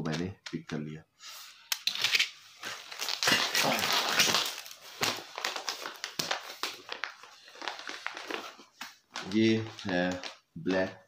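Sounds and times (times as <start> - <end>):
plastic packaging rustling: 1.8 - 10.8.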